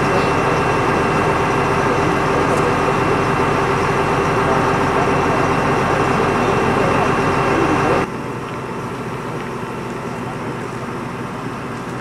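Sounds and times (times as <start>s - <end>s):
fire engine running: 0.0s - 12.0s.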